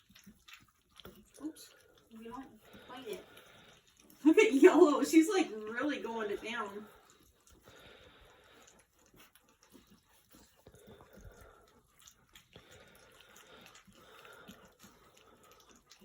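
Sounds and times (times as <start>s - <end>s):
puppies lapping food: 0.0s - 16.0s.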